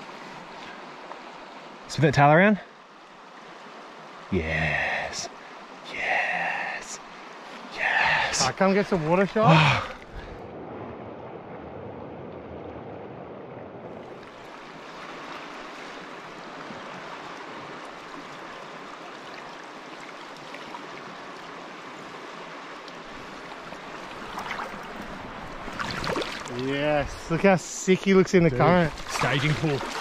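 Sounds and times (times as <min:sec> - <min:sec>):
river water rushing: 0:00.0 - 0:01.9, 0:02.7 - 0:10.4, 0:14.0 - 0:30.0.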